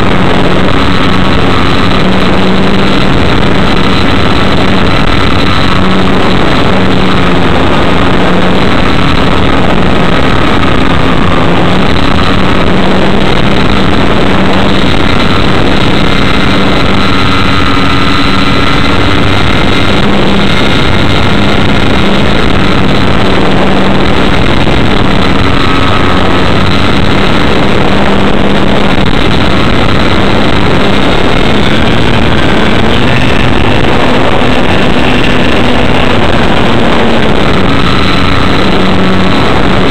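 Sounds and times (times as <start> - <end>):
air rushing on microphone: 0.0 - 39.9.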